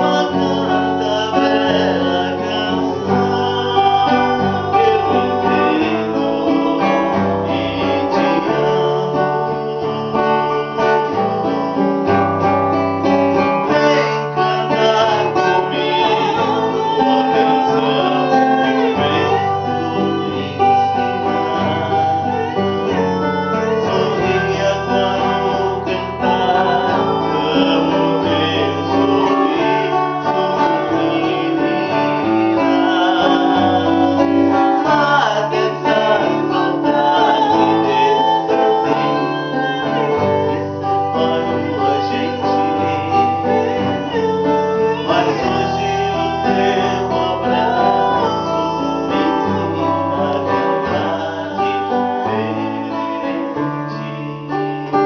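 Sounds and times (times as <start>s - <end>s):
woman singing: 0.0s - 11.1s, 13.6s - 55.0s
acoustic guitar chords: 0.0s - 55.0s.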